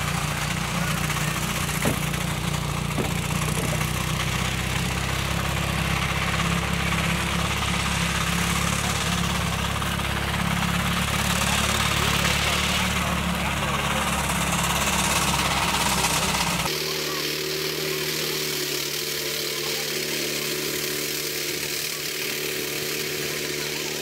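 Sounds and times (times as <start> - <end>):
mower engine under heavy load: 0.0 - 24.0.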